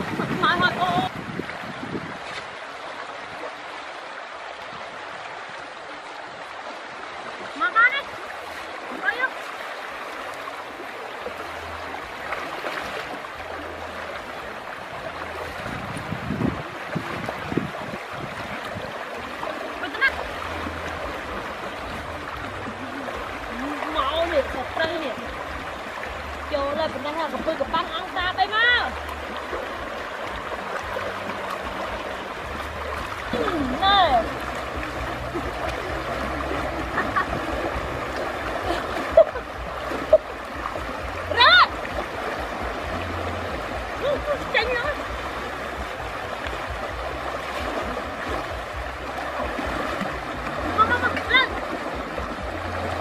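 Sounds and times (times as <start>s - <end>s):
river current rushing: 0.0s - 53.0s
water splashing around waders: 0.0s - 53.0s.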